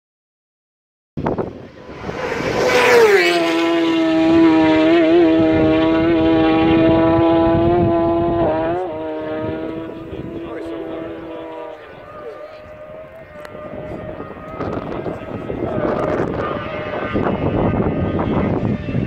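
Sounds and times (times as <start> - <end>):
racing motorcycle passing at speed: 1.2 - 19.0.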